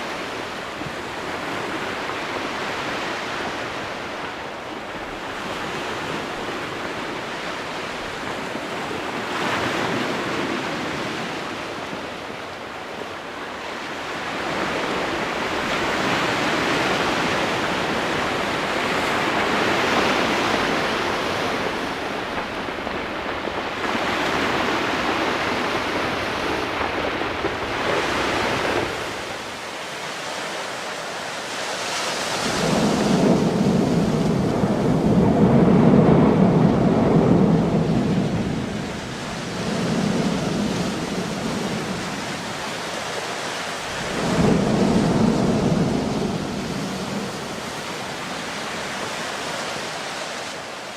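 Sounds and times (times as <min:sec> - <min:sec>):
wind buffeting microphone: 0:00.0 - 0:30.7, 0:31.4 - 0:50.8
sea waves: 0:00.0 - 0:50.9.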